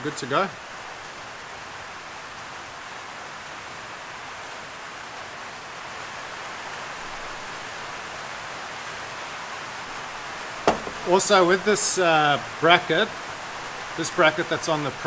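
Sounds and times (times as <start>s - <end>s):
heavy rain on a metal roof: 0.0s - 15.0s.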